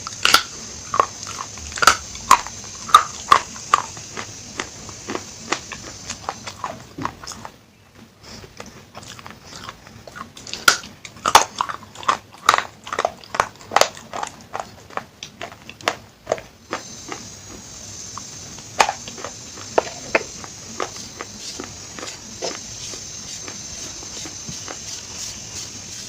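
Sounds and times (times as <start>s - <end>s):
person crunching baked clay: 0.0s - 26.0s.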